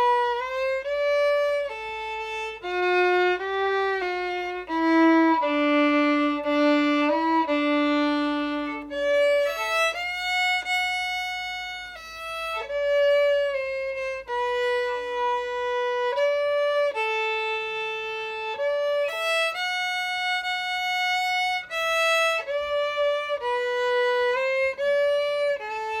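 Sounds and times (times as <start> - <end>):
solo violin melody: 0.0 - 26.0.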